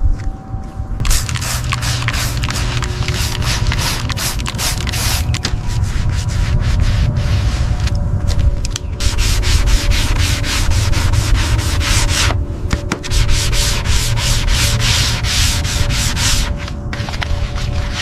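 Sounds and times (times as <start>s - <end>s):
rapid rubbing strokes: 1.0s - 18.0s.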